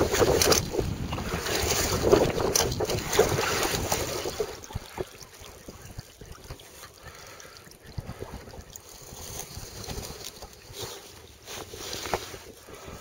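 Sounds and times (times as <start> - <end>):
water splashing against kayak hull: 0.0 - 13.0.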